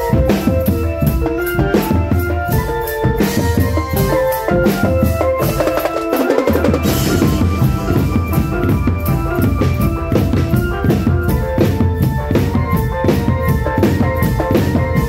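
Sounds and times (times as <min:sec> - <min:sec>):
bass drum and snare beat: 0:00.0 - 0:15.0
melody of held notes: 0:00.0 - 0:15.0.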